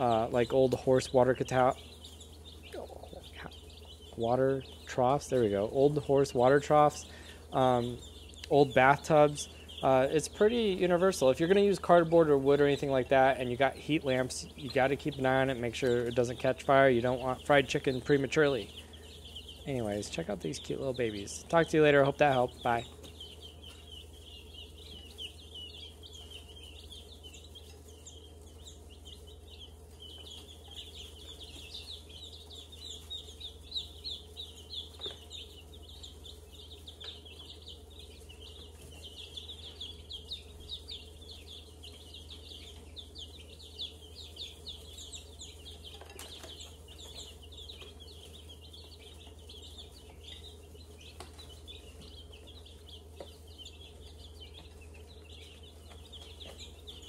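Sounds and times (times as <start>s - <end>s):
baby chicks peeping: 0.0s - 57.0s.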